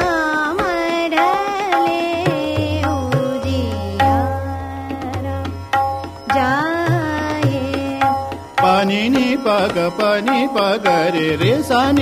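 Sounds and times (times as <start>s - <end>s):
tabla: 0.0s - 12.0s.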